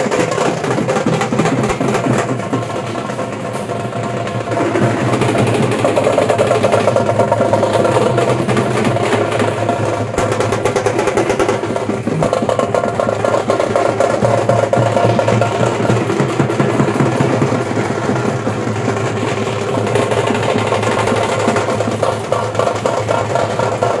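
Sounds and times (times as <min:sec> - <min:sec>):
fast drumming in rolls: 0:00.0 - 0:24.0.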